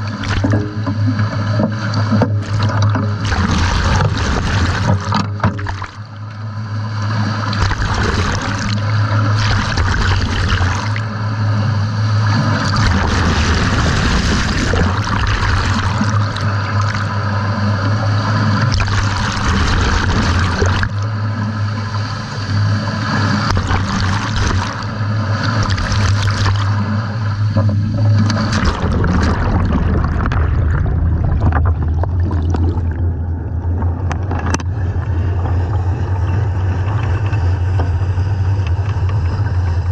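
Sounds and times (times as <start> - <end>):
steady low hum: 0.0 - 39.9
water rushing and gurgling: 0.0 - 39.9.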